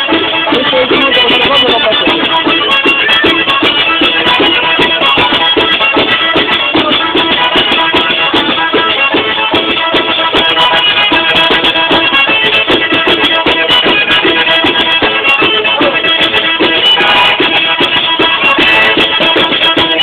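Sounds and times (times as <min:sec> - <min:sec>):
folk melody: 0:00.0 - 0:20.0
frame drum beating fast rhythm: 0:00.0 - 0:20.0.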